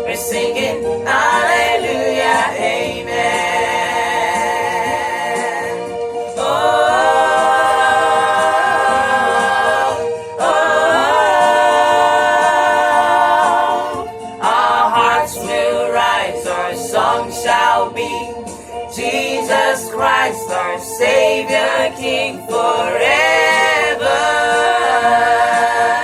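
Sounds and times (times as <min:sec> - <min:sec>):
a cappella group singing: 0:00.0 - 0:26.0.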